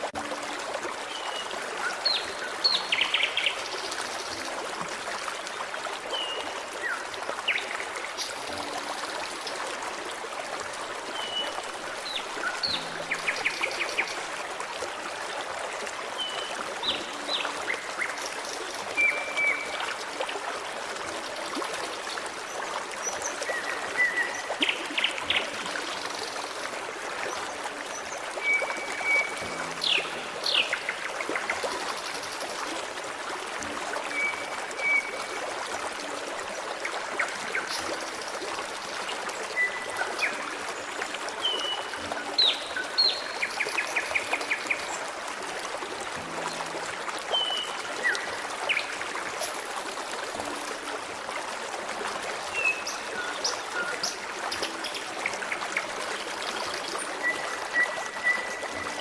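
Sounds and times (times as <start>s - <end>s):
stream trickling and burbling: 0.0s - 59.0s.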